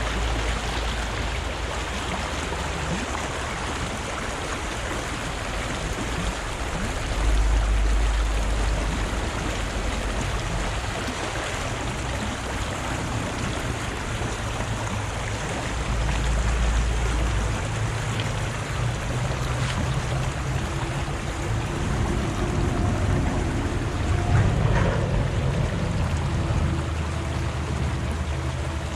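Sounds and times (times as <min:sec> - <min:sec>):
deep low rumble: 0:00.0 - 0:28.9
river rushing: 0:00.0 - 0:28.9.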